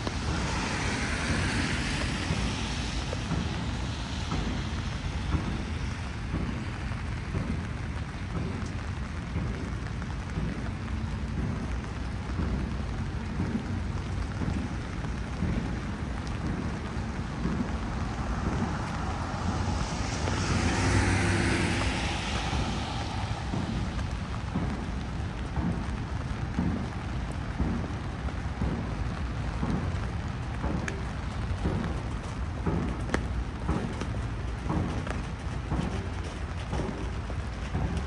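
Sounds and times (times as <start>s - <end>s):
rain falling on pavement: 0.0s - 38.0s
vehicle tyres hissing on wet road: 0.0s - 38.0s.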